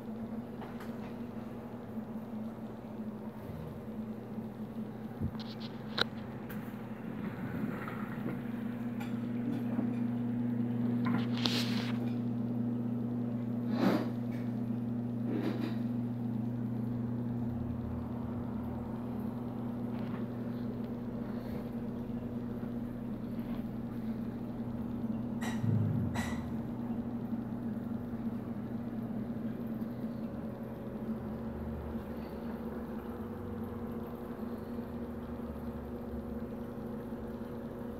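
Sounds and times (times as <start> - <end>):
aquarium pumps humming: 0.0 - 37.9.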